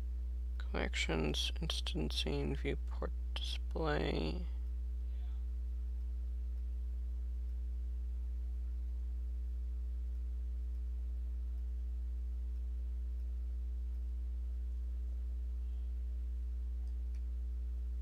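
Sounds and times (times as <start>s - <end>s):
low electrical mains hum: 0.0s - 18.0s.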